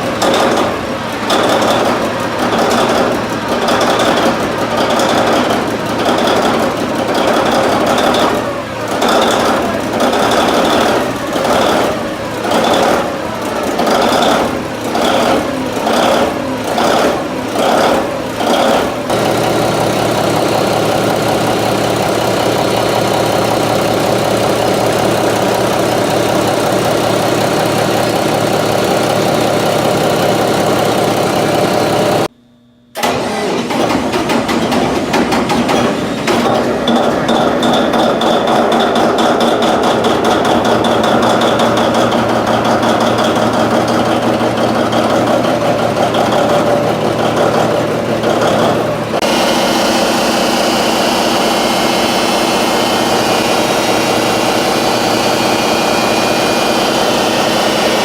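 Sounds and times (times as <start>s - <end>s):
large diesel engine running: 0.0s - 32.3s, 33.0s - 58.0s.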